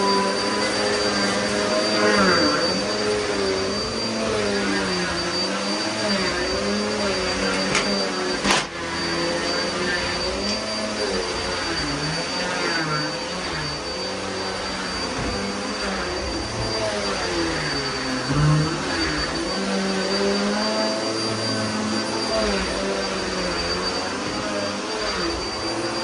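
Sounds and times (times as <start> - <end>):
vacuum cleaner motor hum: 0.0 - 26.0.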